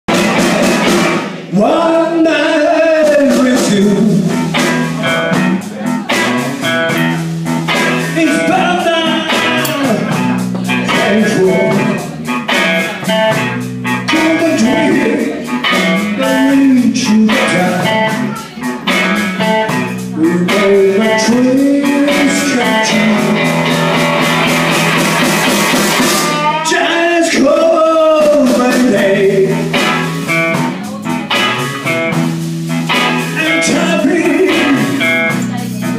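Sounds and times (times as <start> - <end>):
amplified electric guitars: 0.1 - 35.9
bending lead guitar line: 0.1 - 35.9
drum kit: 0.1 - 35.9.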